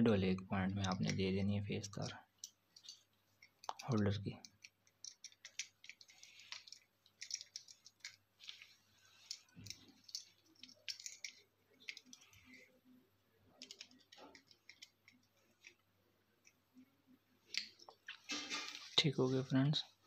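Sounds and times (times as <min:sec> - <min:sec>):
scratchy rustles of hands and wire: 0:01.9 - 0:20.0.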